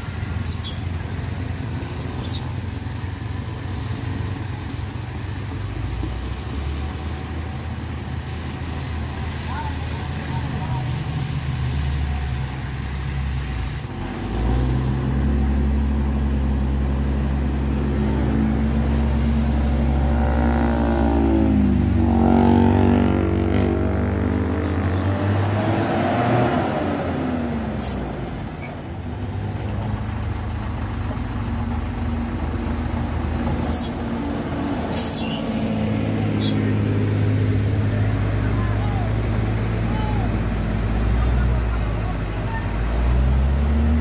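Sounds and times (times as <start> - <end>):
diesel truck engine labouring: 0.0 - 44.0.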